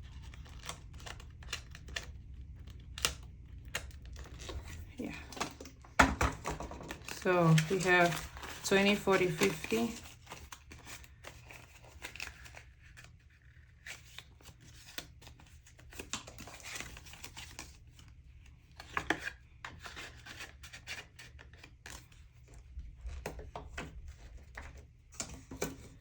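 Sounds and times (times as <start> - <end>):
paper rustling and crinkling: 0.0 - 26.0.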